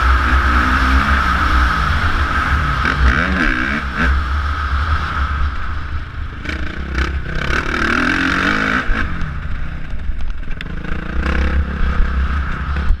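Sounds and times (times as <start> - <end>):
motocross bike engine revving: 0.0 - 9.7, 10.5 - 13.0
wind rumble: 0.0 - 13.0.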